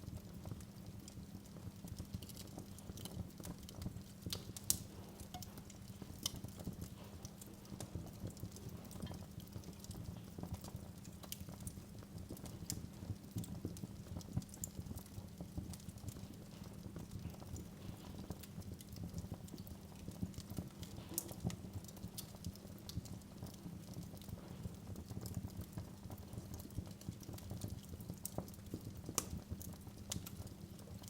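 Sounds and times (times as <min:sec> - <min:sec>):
fire crackles and pops: 0:00.0 - 0:31.0
flames rumbling: 0:00.0 - 0:31.0.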